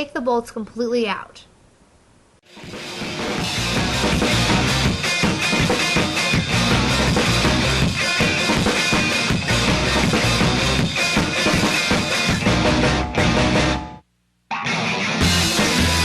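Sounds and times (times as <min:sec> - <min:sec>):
rock music with drums and guitar: 0:02.5 - 0:16.0.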